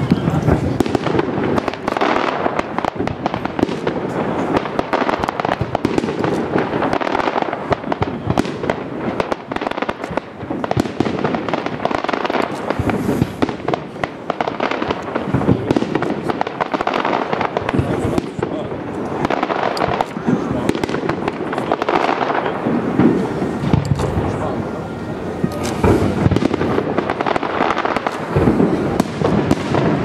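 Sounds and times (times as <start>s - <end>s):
firework shells bursting: 0.0s - 24.4s, 25.6s - 30.0s
firework crackling: 0.0s - 30.0s.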